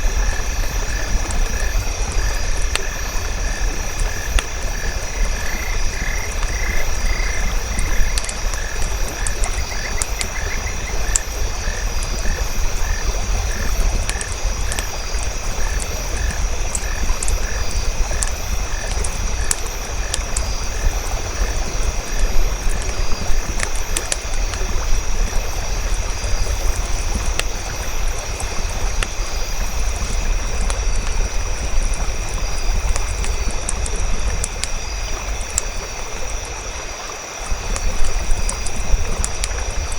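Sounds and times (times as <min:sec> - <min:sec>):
campfire crackling and popping: 0:00.0 - 0:39.9
frogs croaking: 0:00.0 - 0:39.9.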